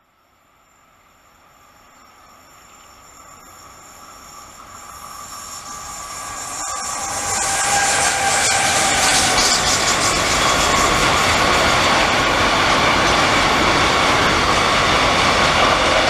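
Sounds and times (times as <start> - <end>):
freight train on rails: 0.0 - 16.0.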